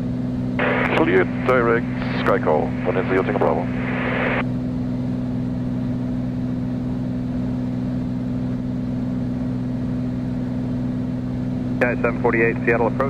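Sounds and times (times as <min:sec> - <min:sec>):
aircraft engine and propeller drone: 0:00.0 - 0:13.0.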